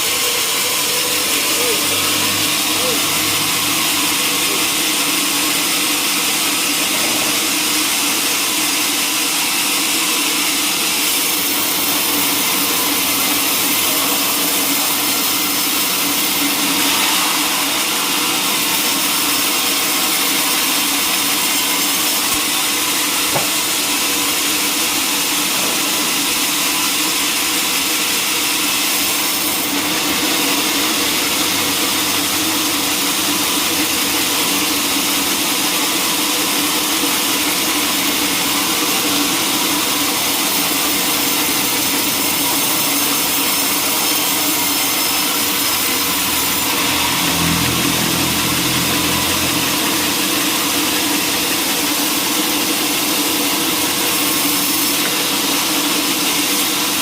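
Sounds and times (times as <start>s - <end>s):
sawmill saw hissing: 0.0s - 57.0s.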